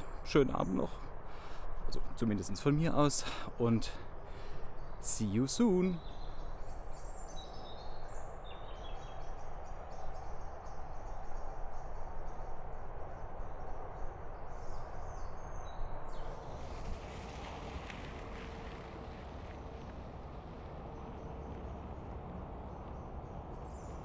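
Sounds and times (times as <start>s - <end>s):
birds chirping: 0.0s - 11.6s, 12.5s - 24.0s.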